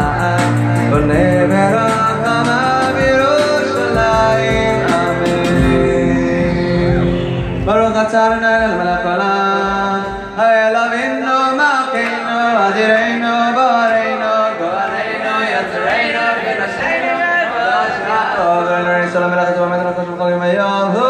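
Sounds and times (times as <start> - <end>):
man singing through a pa: 0.0 - 21.0.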